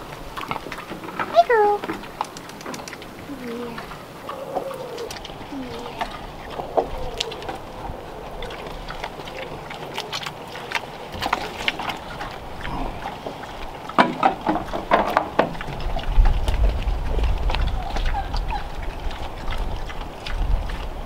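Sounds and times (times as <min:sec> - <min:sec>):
pig smacking and chomping feed: 0:00.0 - 0:21.0.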